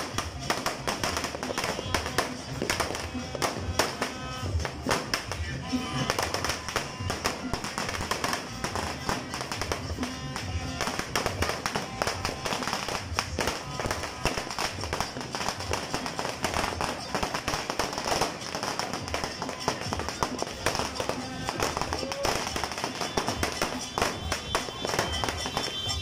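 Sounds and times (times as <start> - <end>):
fireworks and firecrackers crackling: 0.0 - 26.0
music playing: 0.0 - 26.0.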